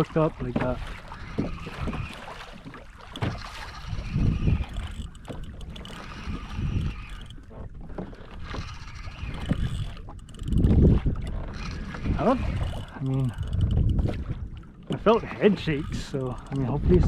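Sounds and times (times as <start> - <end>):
water slapping against kayak hull: 0.0 - 17.0
wind rumbling on microphone: 0.0 - 17.0.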